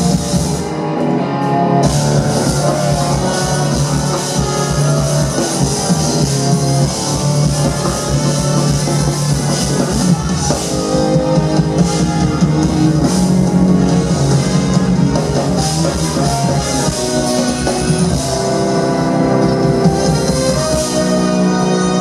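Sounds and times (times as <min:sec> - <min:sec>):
drum kit: 0:00.0 - 0:01.2, 0:01.8 - 0:22.0
bass guitar: 0:00.0 - 0:22.0
electric guitar: 0:00.0 - 0:22.0
jazz fusion band playing: 0:01.8 - 0:22.0.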